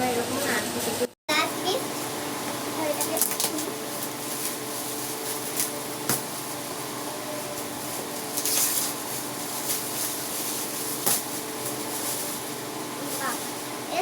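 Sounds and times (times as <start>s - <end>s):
fan-like background hiss: 0.0s - 14.0s
wrapping paper rustling: 1.4s - 14.0s.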